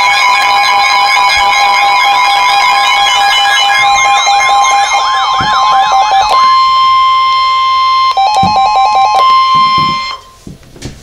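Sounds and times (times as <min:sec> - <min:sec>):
repeated beeps: 0:00.0 - 0:10.4
steady warning tone: 0:00.0 - 0:10.4
warbling siren tone: 0:00.0 - 0:10.4.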